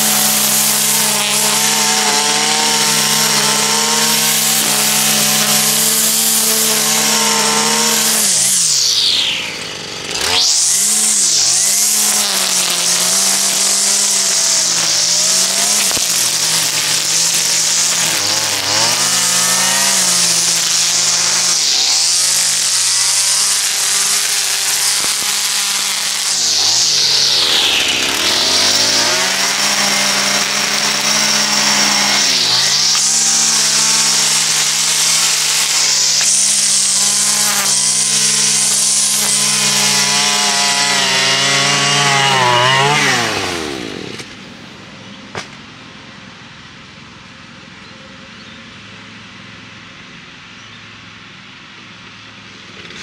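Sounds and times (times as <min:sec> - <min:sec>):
string trimmer running: 0:00.0 - 0:44.5, 0:52.4 - 0:53.0.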